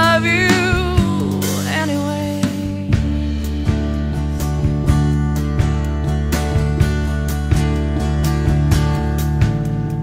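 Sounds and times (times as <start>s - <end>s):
instrumental music with guitar: 0.0s - 10.0s.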